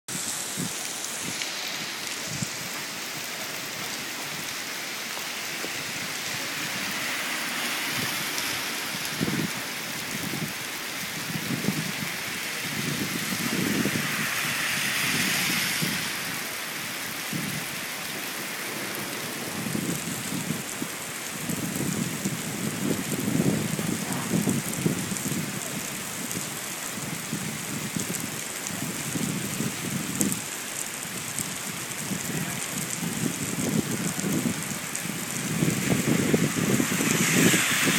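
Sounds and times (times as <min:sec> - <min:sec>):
car tyres swishing through water: 0:00.1 - 0:37.9
heavy rain on street: 0:00.1 - 0:37.9
wind gusts rumbling: 0:00.1 - 0:37.9.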